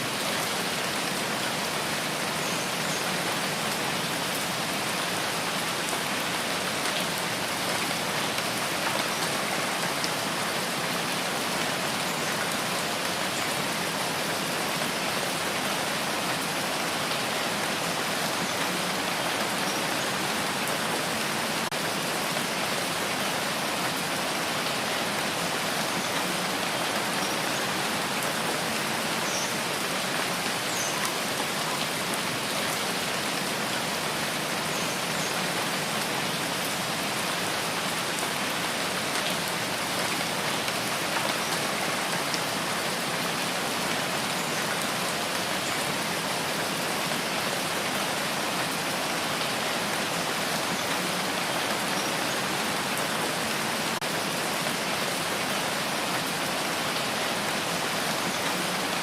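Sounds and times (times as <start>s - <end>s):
rain pattering on surfaces: 0.1s - 59.0s.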